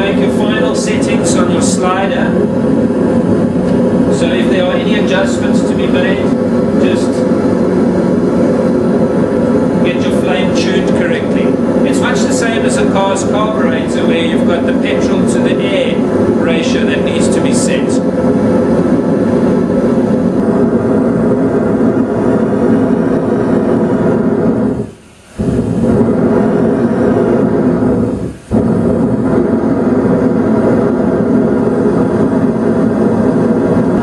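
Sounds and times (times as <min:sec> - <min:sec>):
gas burner flame roaring: 0:00.0 - 0:34.0.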